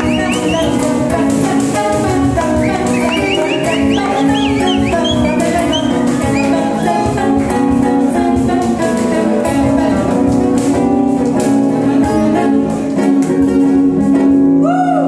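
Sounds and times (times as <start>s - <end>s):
plucked string instrumental music: 0.0s - 14.7s.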